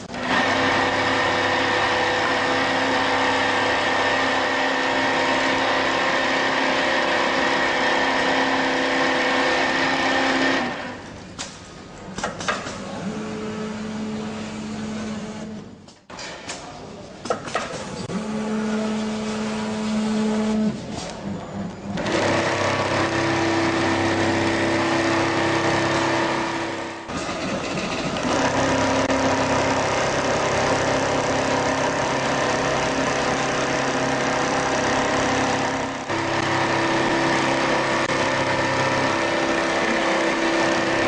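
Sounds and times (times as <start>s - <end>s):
sewing machine whining hum: 0.0s - 11.3s, 12.7s - 16.4s, 17.8s - 41.0s.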